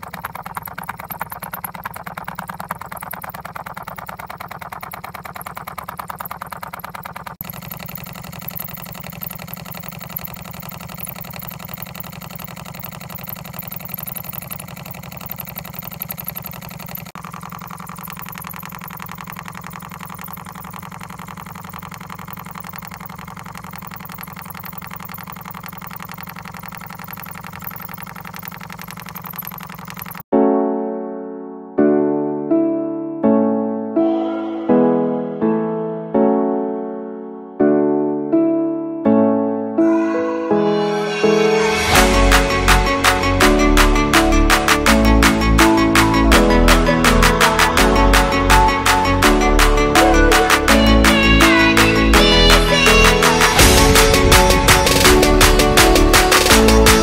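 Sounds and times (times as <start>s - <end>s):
engine rattling ticks: 0.0s - 30.3s, 41.7s - 57.0s.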